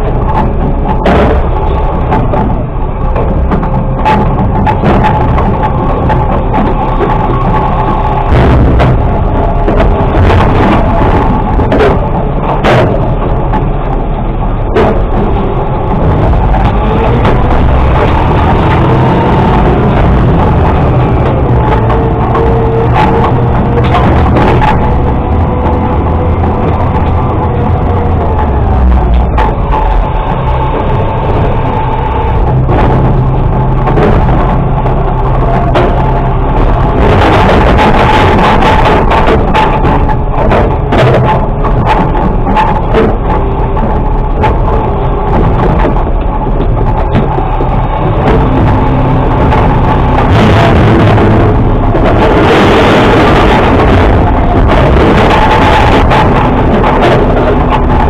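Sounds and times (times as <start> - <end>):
metal clanks: 0.0 - 58.0
truck engine and hydraulic rumble: 0.0 - 58.0.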